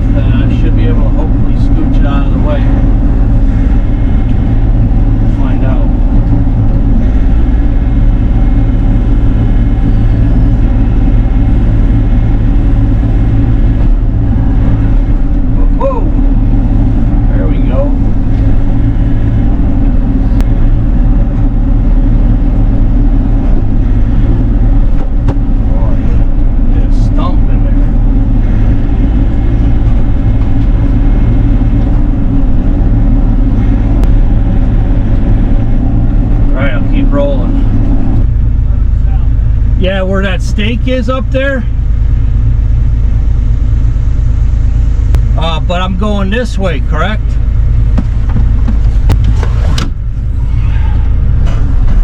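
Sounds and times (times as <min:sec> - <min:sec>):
excavator diesel engine drone: 0:00.0 - 0:52.0.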